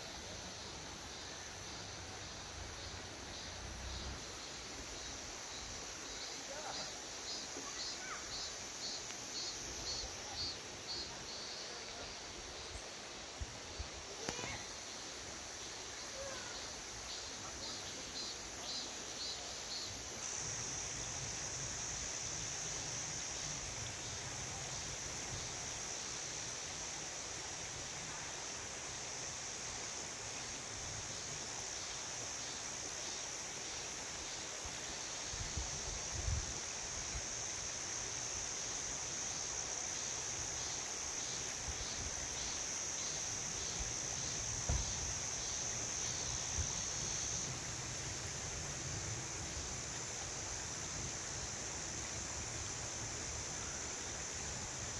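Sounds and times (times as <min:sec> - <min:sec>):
cicadas singing: 0:00.0 - 0:27.4, 0:28.7 - 0:54.9.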